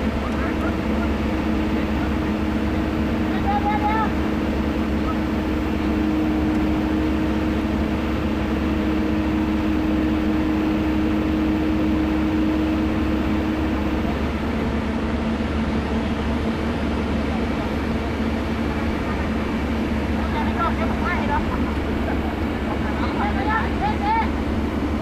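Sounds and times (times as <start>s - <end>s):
diesel engine running: 0.0s - 25.0s
held whine: 0.0s - 25.0s.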